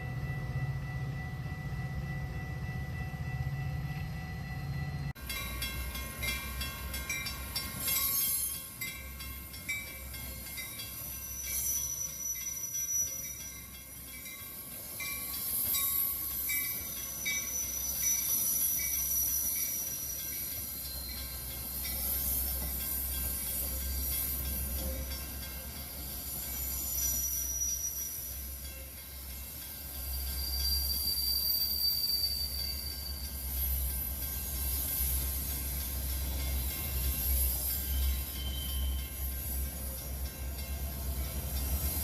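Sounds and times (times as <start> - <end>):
train passing rumble: 0.0 - 42.0
metallic wheel squeals: 7.1 - 42.0.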